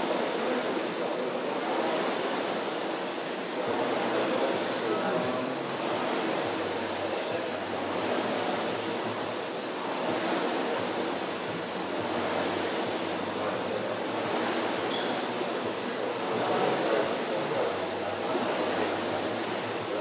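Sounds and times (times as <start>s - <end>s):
rowing machine flywheel whooshing: 0.0s - 20.0s.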